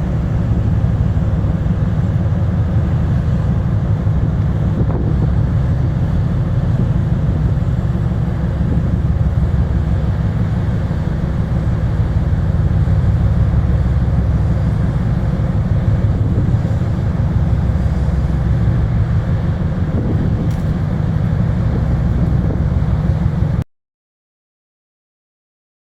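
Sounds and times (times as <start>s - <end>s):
ship engine rumble: 0.0s - 23.6s.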